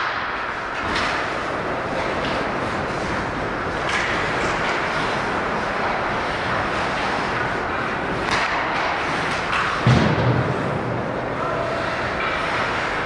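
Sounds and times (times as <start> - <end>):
hockey sticks clacking: 0.0 - 13.0
skates scraping ice: 0.0 - 13.0.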